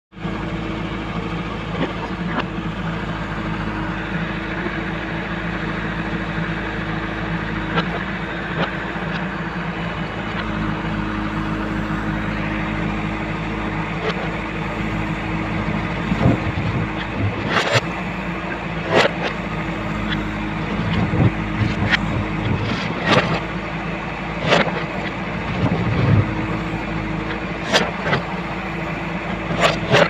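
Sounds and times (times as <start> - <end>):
diesel engine running: 0.1 - 30.0.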